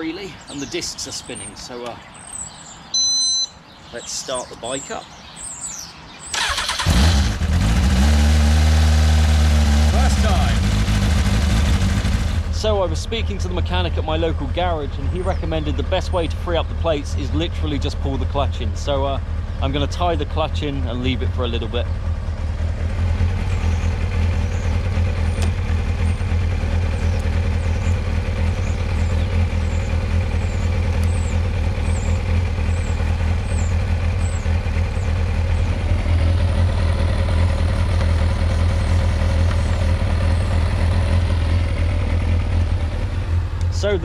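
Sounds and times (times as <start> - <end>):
motorcycle engine idling: 5.6 - 44.0.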